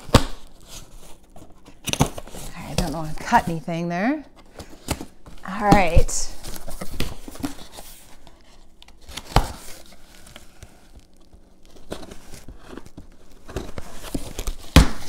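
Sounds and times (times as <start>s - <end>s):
cardboard rustling and tearing: 0.0s - 3.6s, 4.4s - 15.0s.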